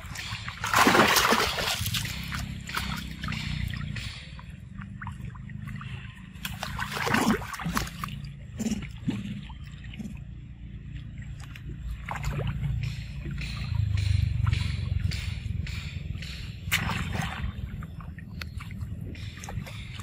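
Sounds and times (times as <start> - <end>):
water splashing: 0.0 - 15.4, 16.6 - 20.0
low rumble: 0.0 - 20.0.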